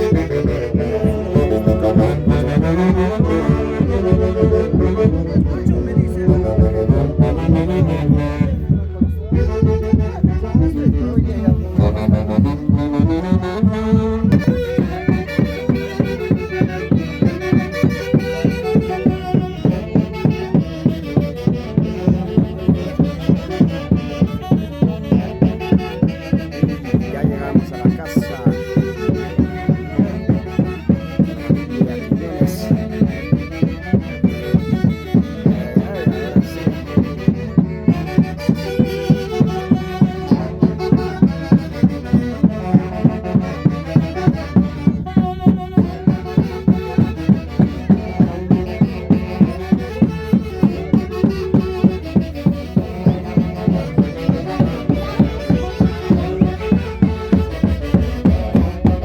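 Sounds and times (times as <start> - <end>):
steady driving beat: 0.0 - 59.0
wind instruments playing melody: 0.0 - 59.0.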